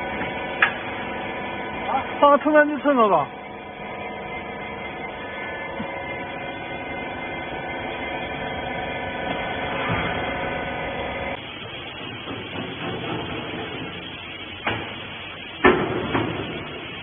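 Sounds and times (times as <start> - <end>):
electric motor and pump humming: 0.0 - 17.0.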